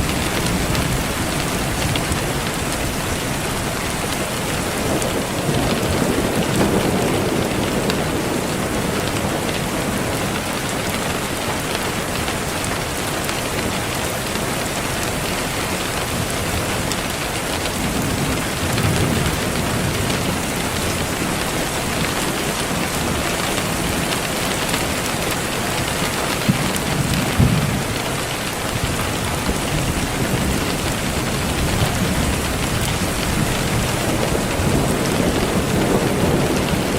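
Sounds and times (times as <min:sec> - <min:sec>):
steady rain: 0:00.0 - 0:36.9
thunder rumbling: 0:00.0 - 0:36.9.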